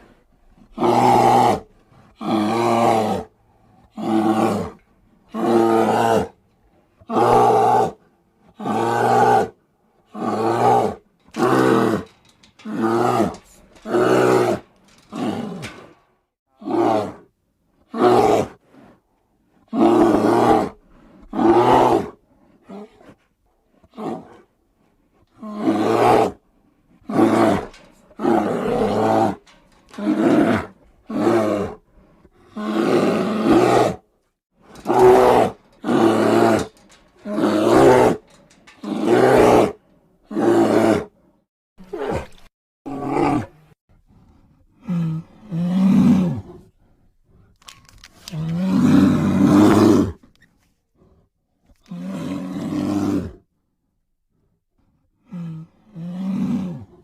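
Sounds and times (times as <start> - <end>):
bear roaring: 0.6 - 6.4, 7.0 - 17.3, 17.9 - 18.6, 19.7 - 24.5, 25.3 - 41.2, 41.8 - 50.2, 51.8 - 53.5, 55.3 - 57.0.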